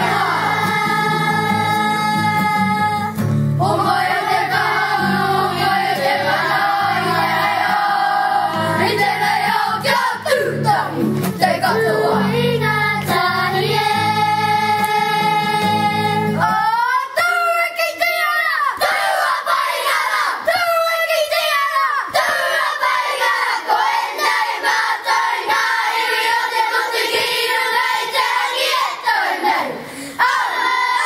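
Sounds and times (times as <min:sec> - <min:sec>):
children singing: 0:00.0 - 0:17.0, 0:21.6 - 0:31.0.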